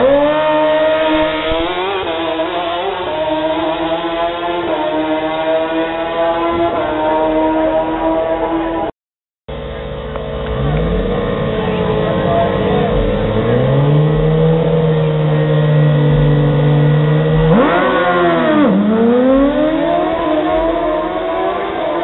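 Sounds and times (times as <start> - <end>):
motorcycle engines revving: 0.0 - 8.9, 9.6 - 22.0.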